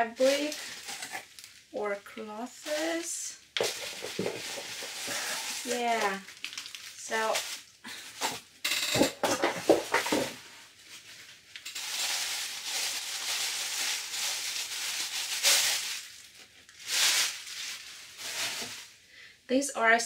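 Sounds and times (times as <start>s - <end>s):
plastic bag rustling and crinkling: 0.0s - 1.7s, 2.5s - 19.0s.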